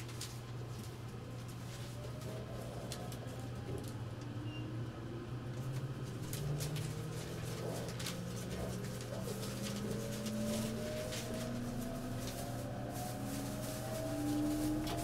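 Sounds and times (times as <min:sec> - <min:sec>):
steady low hum: 0:00.0 - 0:15.0
train motors whining: 0:01.0 - 0:15.0.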